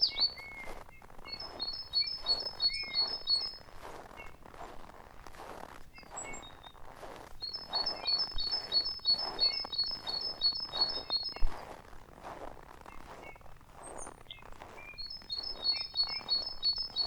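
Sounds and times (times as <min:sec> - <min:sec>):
bird chirps: 0:00.0 - 0:04.4, 0:05.9 - 0:06.8, 0:07.4 - 0:11.6, 0:12.8 - 0:17.0
songbird singing: 0:00.0 - 0:04.4, 0:05.9 - 0:06.8, 0:07.4 - 0:11.7, 0:12.8 - 0:17.0
footsteps crunching in snow: 0:00.0 - 0:17.0.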